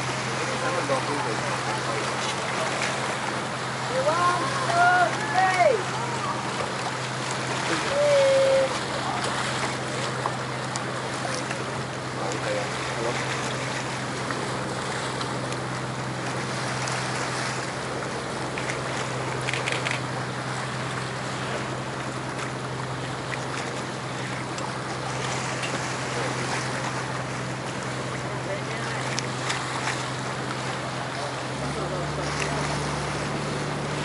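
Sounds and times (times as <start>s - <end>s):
boat engine drone: 0.0s - 34.0s
water rushing past hull: 0.0s - 34.0s
wind: 0.0s - 34.0s.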